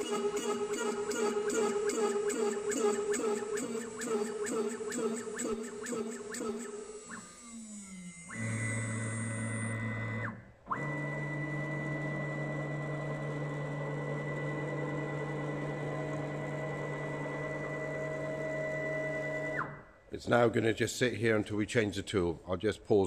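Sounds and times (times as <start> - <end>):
motors whining: 0.0 - 19.9.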